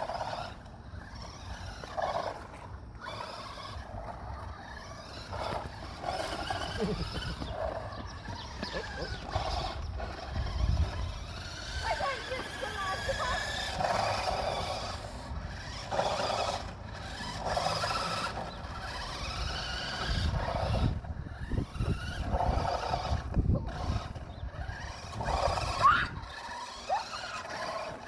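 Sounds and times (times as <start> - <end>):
toy car motor: 0.0 - 28.0
tyres skidding on ground: 0.0 - 28.0.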